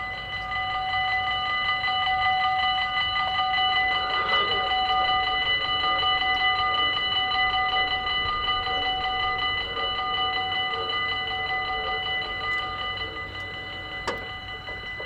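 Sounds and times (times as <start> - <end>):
level-crossing warning bells: 0.0 - 15.0.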